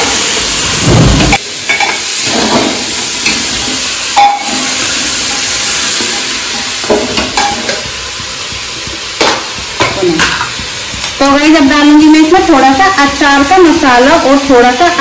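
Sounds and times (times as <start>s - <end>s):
pumpkin sizzling in hot oil: 0.0s - 15.0s.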